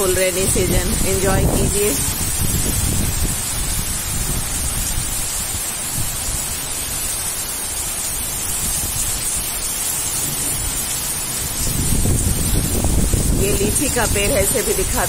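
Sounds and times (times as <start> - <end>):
wind buffeting microphone: 0.0 - 7.1, 8.0 - 15.0
heavy rain pouring: 0.0 - 15.0.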